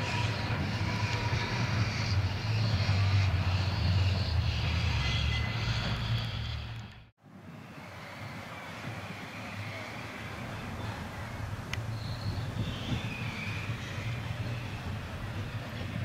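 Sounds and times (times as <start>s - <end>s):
electric tram rumbling: 0.0s - 16.0s
outdoor background: 0.0s - 16.0s.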